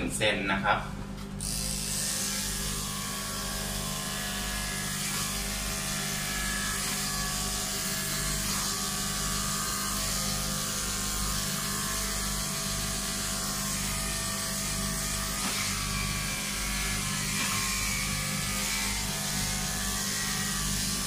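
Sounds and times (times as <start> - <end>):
electric clippers shaving fur: 1.2 - 21.0.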